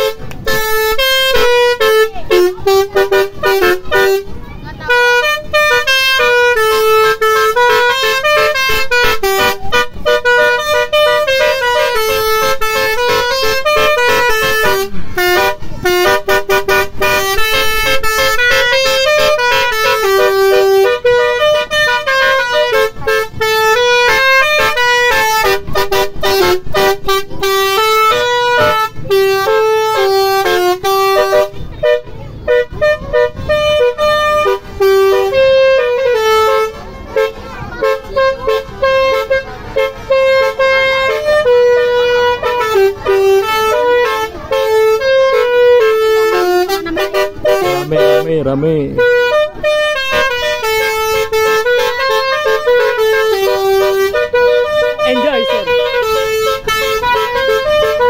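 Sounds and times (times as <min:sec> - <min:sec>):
car horn playing a melody: 0:00.0 - 0:58.0.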